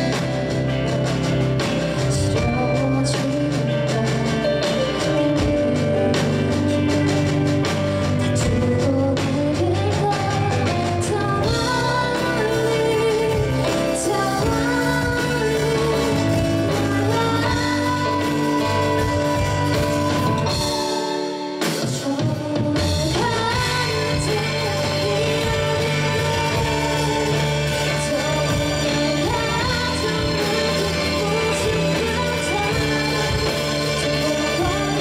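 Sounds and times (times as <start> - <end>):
bass guitar: 0.0 - 35.0
drum kit: 0.0 - 35.0
electric guitars: 0.0 - 35.0
keyboard: 0.0 - 35.0
woman singing: 0.0 - 35.0.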